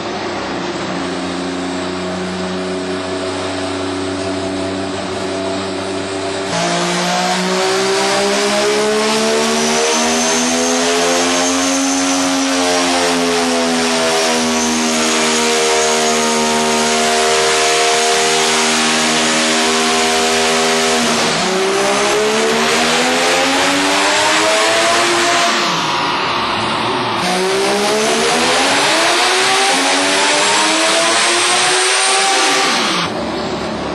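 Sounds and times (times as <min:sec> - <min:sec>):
rotary engine running hard: 0:00.0 - 0:33.9.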